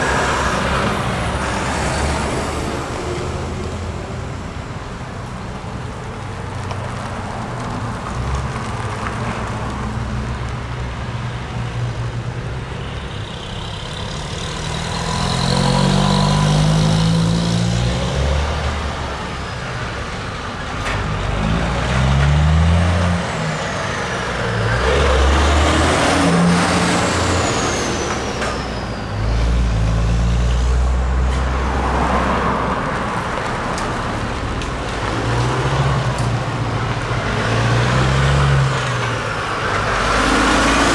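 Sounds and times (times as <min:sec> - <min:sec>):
diesel trucks driving past: 0:00.0 - 0:40.9.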